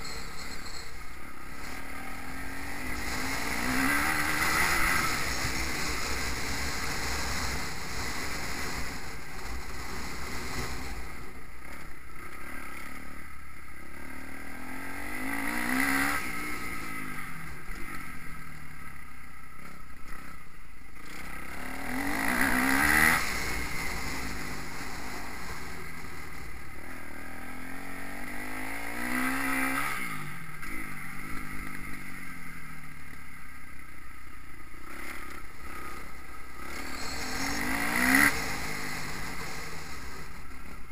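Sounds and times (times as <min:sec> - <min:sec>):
motocross bike engines revving: 0:00.0 - 0:18.3, 0:21.0 - 0:32.3, 0:34.6 - 0:40.9.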